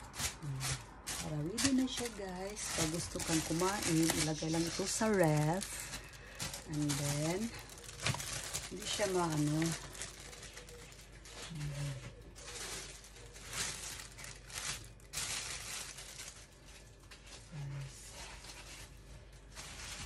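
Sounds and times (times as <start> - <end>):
plastic bag crinkling: 0.0 - 17.6, 18.2 - 20.0.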